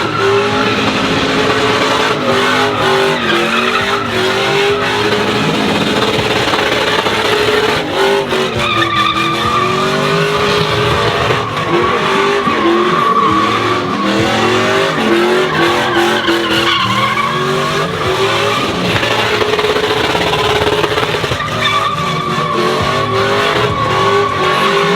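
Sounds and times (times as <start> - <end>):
tire squeal: 0.0 - 24.9
truck engine noise: 0.0 - 24.9.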